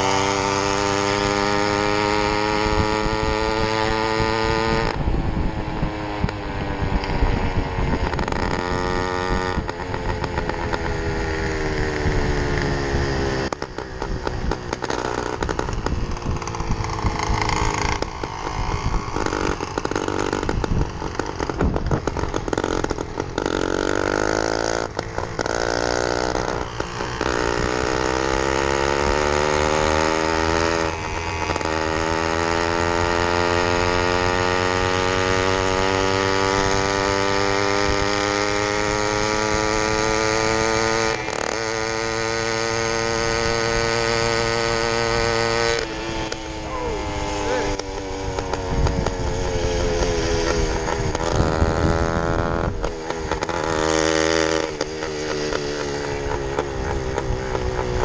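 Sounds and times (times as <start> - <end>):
small two-stroke engine running: 0.0 - 58.0.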